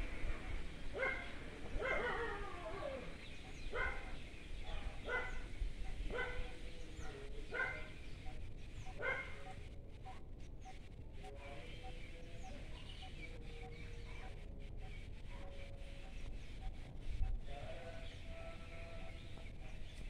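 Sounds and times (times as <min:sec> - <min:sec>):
animal calling: 0:00.1 - 0:19.7.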